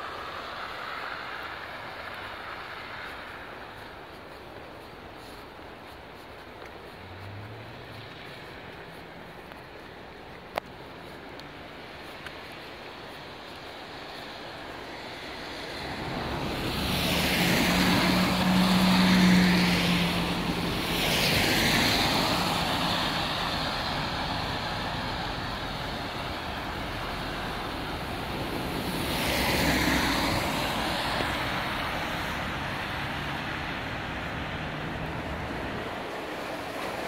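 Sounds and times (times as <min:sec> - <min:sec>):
tyres hissing on wet street: 0:00.0 - 0:37.0.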